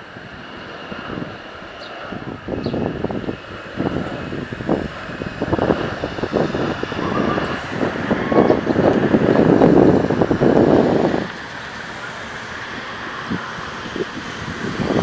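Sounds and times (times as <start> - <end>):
jet airliner landing roll: 0.0 - 15.0
wind buffeting microphone: 0.0 - 15.0.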